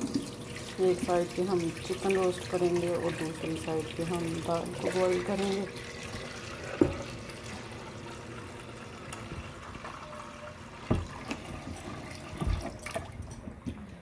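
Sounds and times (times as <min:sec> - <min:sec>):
tap water running into a pot: 0:00.0 - 0:13.7.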